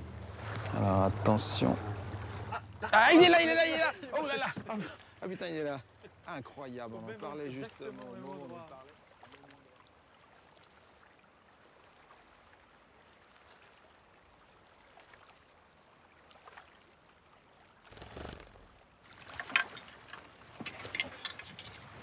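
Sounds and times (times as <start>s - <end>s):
faint outdoor hiss: 0.0s - 15.0s, 17.3s - 22.0s.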